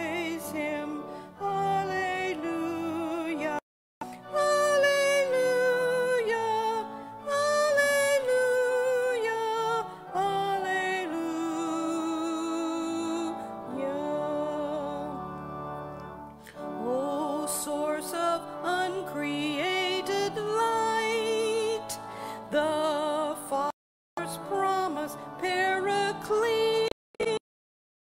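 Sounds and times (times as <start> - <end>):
hymn sung with vibrato: 0.0 - 3.6, 4.2 - 15.4, 16.6 - 26.9
sustained accompanying chords: 0.0 - 23.5.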